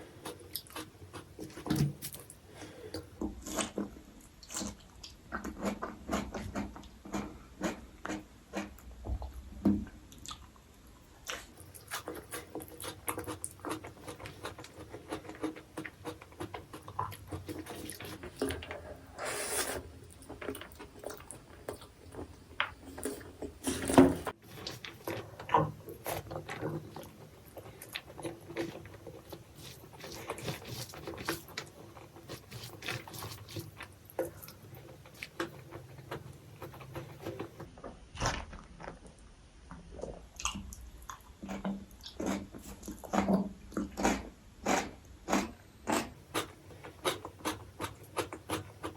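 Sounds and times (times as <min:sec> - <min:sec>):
mouth chewing food: 0:00.0 - 0:09.5, 0:10.1 - 0:37.7, 0:38.8 - 0:48.9.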